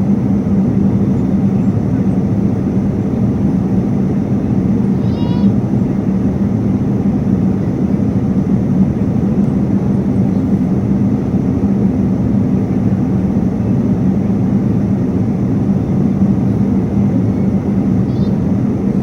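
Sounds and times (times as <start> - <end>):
constant low hum: 0.0 - 19.0
jet engine and airflow roar: 0.0 - 19.0.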